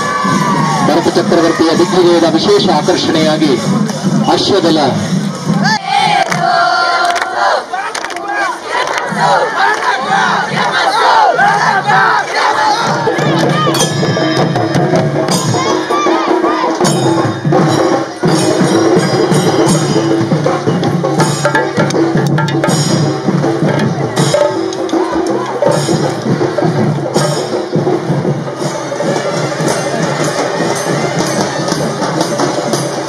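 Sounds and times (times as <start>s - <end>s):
drummers beating barrel drums: 0.0s - 7.6s, 8.4s - 33.0s.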